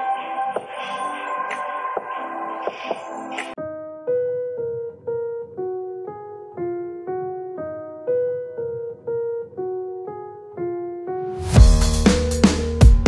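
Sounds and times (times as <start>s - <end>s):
slow keyboard melody: 0.0s - 13.0s.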